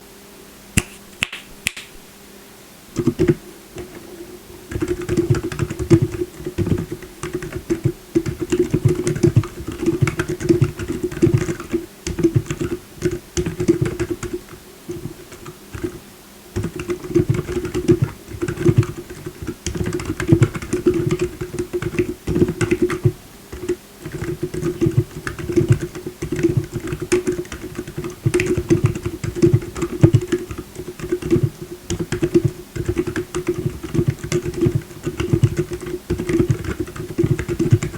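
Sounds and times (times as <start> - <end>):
mechanical keyboard typing: 3.0 - 4.1, 4.7 - 16.0, 16.6 - 37.9.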